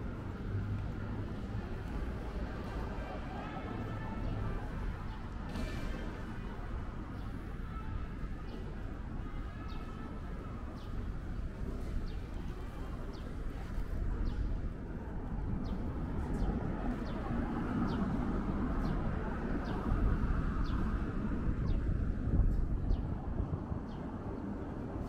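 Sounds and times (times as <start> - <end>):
murmur of people: 0.0 - 25.0.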